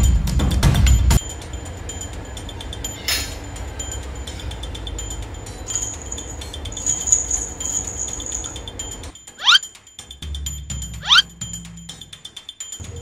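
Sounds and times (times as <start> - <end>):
chiming jingling high notes: 1.2 - 13.0.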